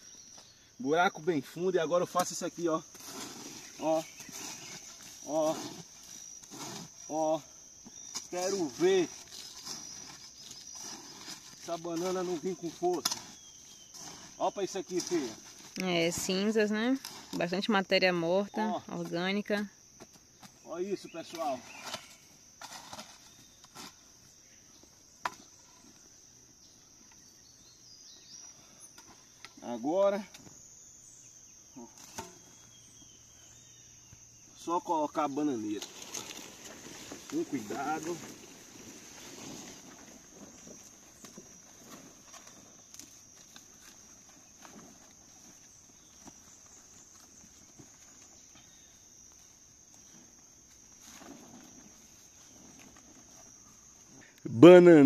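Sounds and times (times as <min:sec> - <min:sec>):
insects chirring: 0:00.0 - 0:55.0
footsteps in loose soil: 0:01.8 - 0:17.6, 0:19.9 - 0:26.2, 0:32.0 - 0:55.0.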